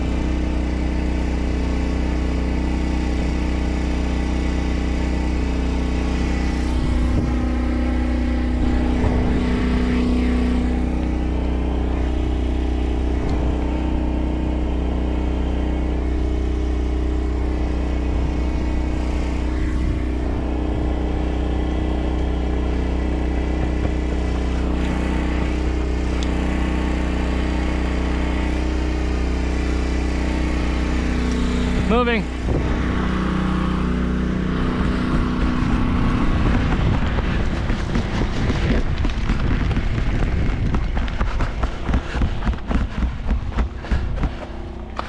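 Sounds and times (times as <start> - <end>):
engine-like drone: 0.0 - 45.0.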